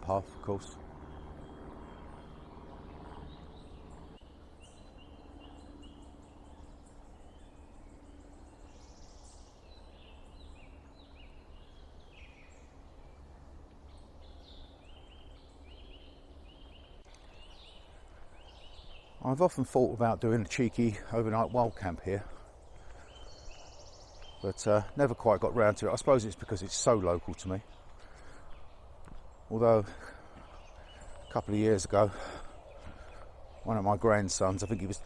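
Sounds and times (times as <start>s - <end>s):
low outdoor background rush: 0.0s - 35.0s
small birds chirping: 0.0s - 35.0s.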